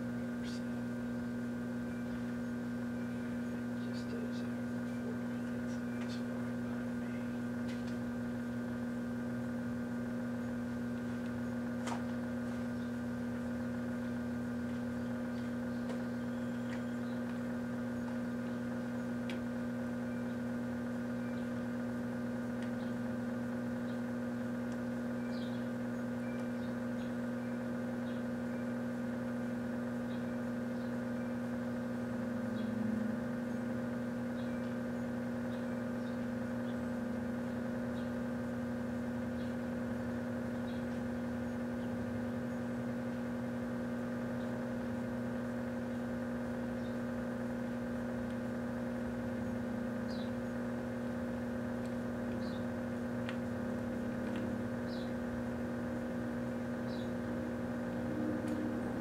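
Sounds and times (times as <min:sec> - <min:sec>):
microwave oven electrical hum: 0:00.0 - 0:59.0.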